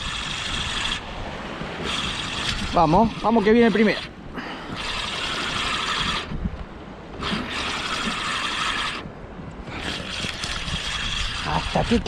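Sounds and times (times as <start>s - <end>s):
fishing reel gears whirring: 0.0s - 1.1s, 1.8s - 6.4s, 7.2s - 9.1s, 9.7s - 12.0s.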